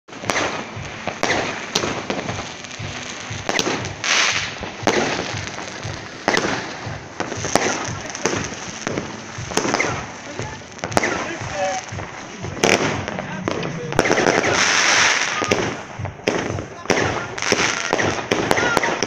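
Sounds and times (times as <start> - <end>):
hissing rush: 0.1 - 17.9
distant fireworks crackling: 0.1 - 19.0
firework bangs: 0.1 - 19.0.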